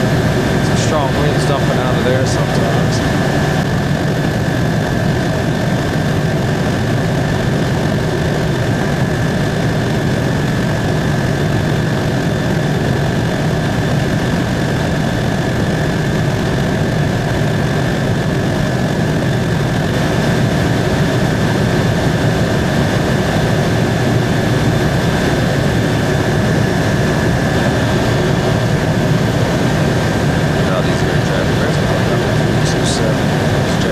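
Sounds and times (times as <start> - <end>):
helicopter rotor and engine drone: 0.0 - 33.9
high whine: 0.0 - 33.9.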